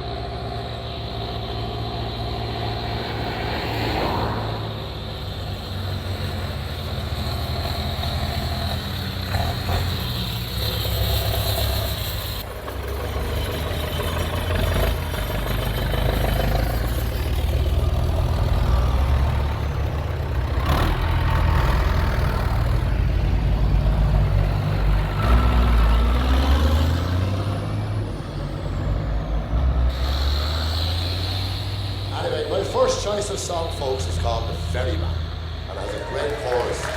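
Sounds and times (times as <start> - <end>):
tractor engines running: 0.0 - 36.9.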